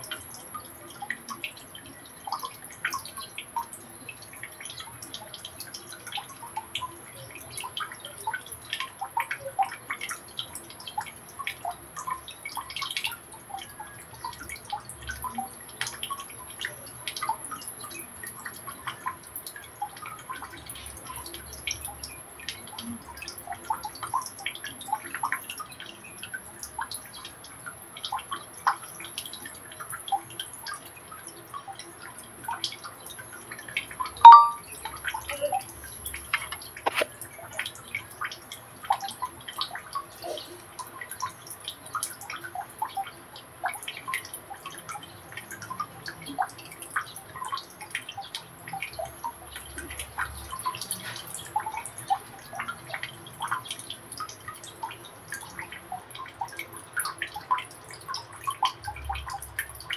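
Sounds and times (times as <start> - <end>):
water dripping: 0.0 - 59.9.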